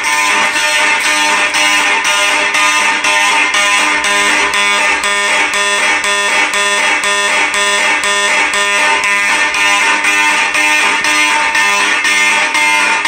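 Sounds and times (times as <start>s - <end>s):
fire alarm horns buzzing: 0.0s - 13.0s.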